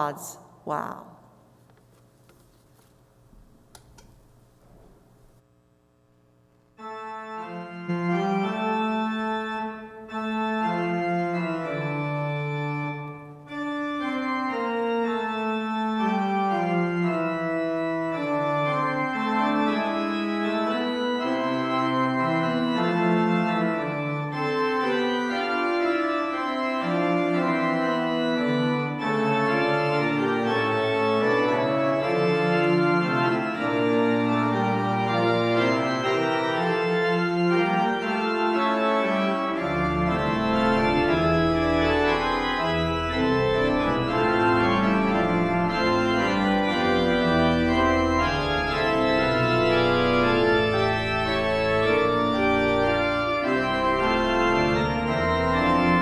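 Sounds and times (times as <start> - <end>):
church organ playing held chords: 6.8 - 56.0.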